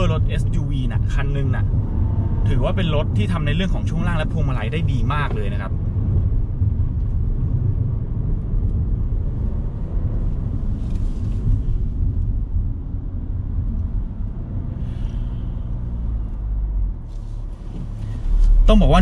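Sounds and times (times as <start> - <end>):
car cabin rumble: 0.0 - 19.0.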